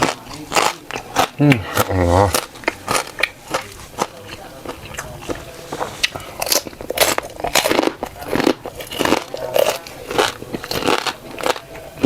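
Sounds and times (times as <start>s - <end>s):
crunchy bites and chewing: 0.0s - 12.0s.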